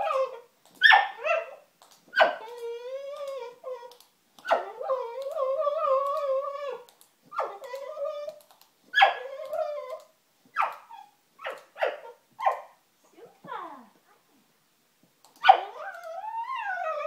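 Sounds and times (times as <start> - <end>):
dog whining and howling: 0.0 - 12.7, 15.4 - 17.0
dog yelp: 0.0 - 12.8, 15.4 - 17.0.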